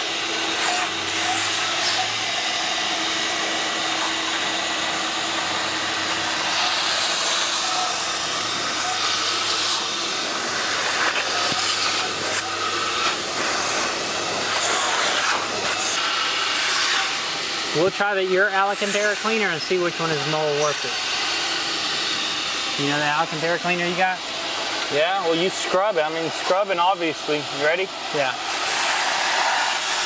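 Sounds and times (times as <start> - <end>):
suction hiss: 3.6 - 21.9, 22.8 - 30.0.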